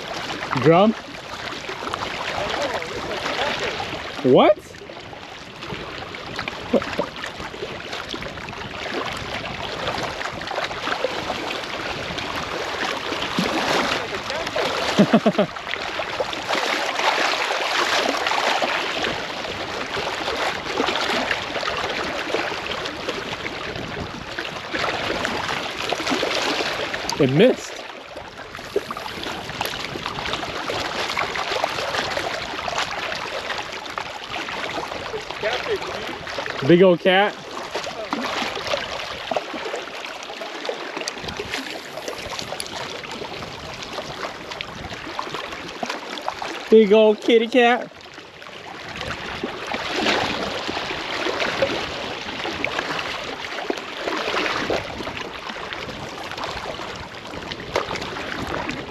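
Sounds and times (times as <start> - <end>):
small waves lapping on rocks: 0.0 - 58.9.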